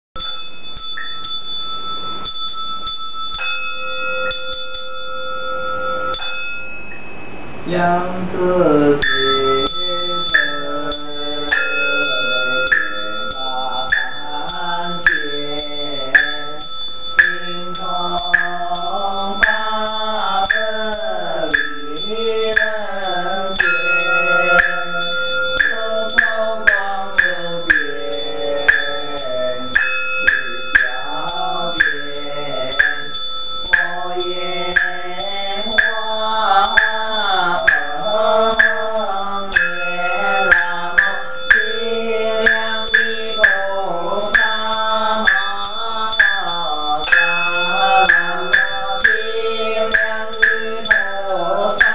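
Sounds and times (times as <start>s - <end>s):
bell ringing: 0.2s - 8.0s, 8.9s - 51.9s
chanting in gliding melody: 0.2s - 51.9s.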